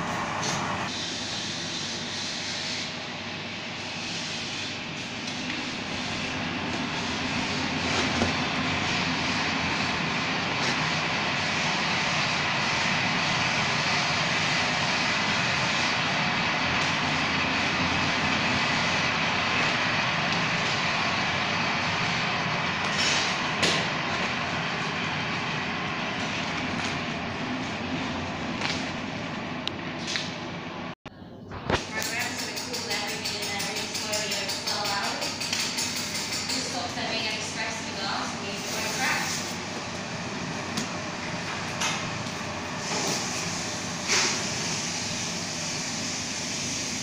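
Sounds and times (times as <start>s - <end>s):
gas furnace roaring: 0.0s - 47.0s.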